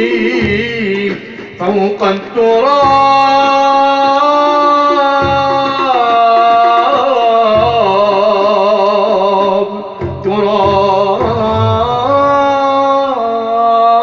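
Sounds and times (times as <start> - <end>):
low beat: 0.0 - 8.4, 9.9 - 13.3
instrumental accompaniment: 0.0 - 13.7
man singing devotional song: 0.0 - 14.0.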